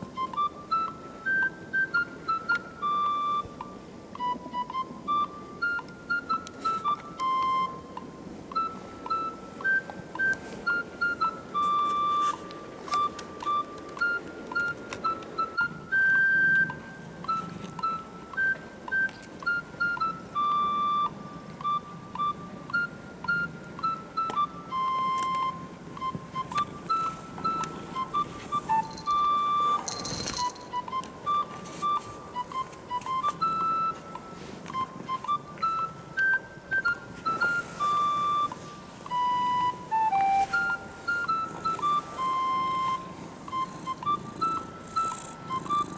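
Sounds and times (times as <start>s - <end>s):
simple melody of short notes: 0.0s - 45.9s.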